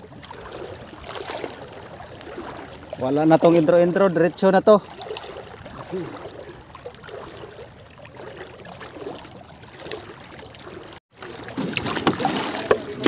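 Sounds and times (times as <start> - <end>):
seawater sloshing and splashing: 0.0 - 13.0.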